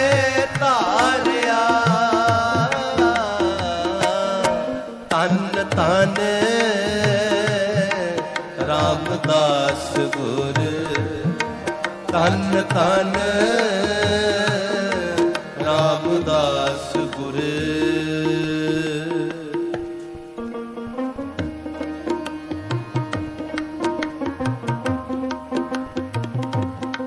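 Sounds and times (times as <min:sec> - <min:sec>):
held accompanying notes: 0:00.0 - 0:27.0
person singing devotional melody: 0:00.0 - 0:27.0.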